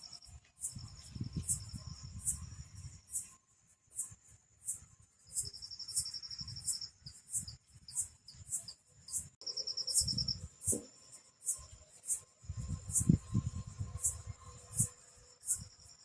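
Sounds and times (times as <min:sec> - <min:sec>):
insects chirping: 0:00.0 - 0:16.0
pulsed insect trill: 0:00.0 - 0:16.0.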